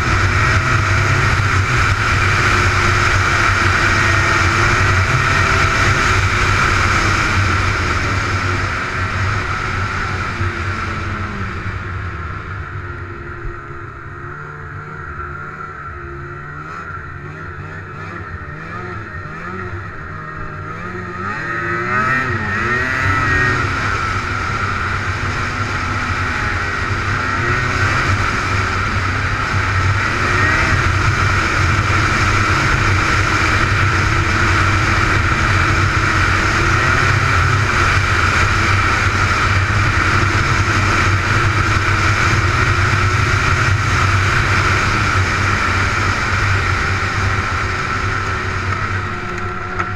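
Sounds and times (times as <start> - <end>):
snowmobile engine running: 0.0 - 49.9.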